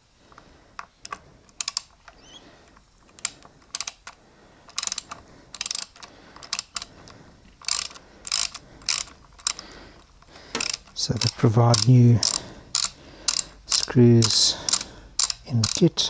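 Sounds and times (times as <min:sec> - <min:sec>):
socket ratchet clicking: 0:00.0 - 0:16.0.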